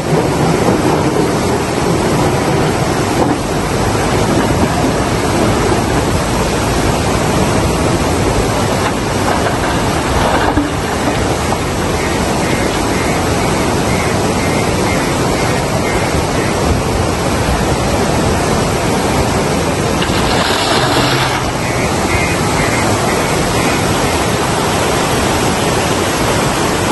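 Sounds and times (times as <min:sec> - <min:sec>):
floodwater rushing: 0:00.0 - 0:26.9.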